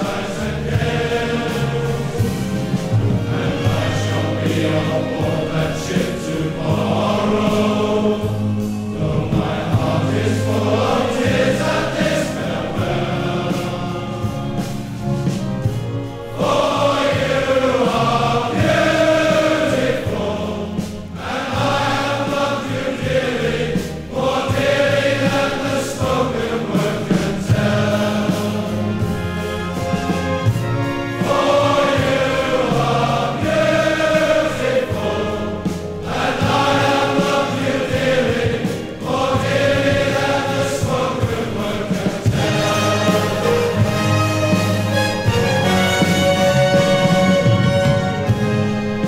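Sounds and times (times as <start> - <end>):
low accompaniment: 0.0 - 49.0
men's chorus singing: 0.0 - 49.0.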